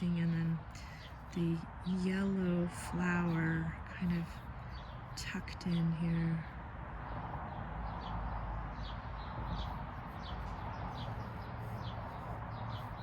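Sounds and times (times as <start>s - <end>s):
outdoor background rush: 0.0s - 13.0s
songbirds chirping: 0.0s - 13.0s.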